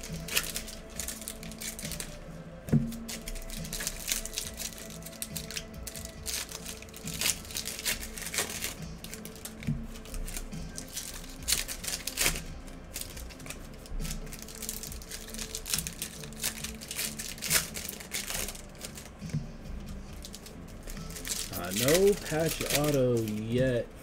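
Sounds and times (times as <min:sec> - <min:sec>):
trading cards flipping: 0:00.0 - 0:23.6
pack wrappers being handled: 0:00.0 - 0:23.8.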